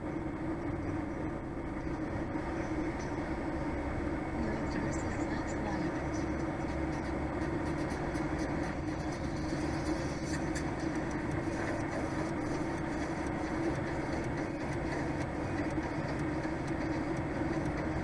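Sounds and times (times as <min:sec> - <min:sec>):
road and cab rumble: 0:00.0 - 0:18.0
truck engine drone in cab: 0:00.0 - 0:18.0.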